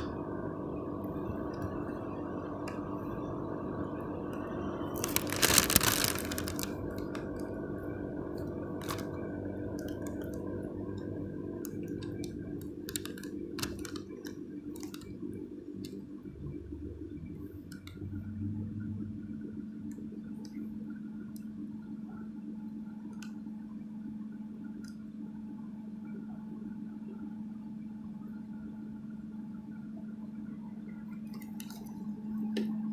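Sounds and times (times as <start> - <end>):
steady low tone: 0.0 - 31.1.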